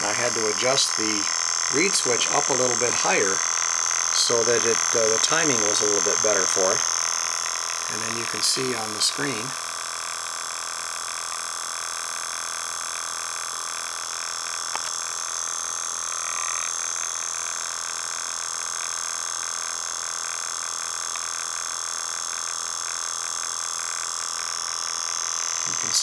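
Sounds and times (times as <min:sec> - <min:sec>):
small motor rotor spinning: 0:00.0 - 0:26.0.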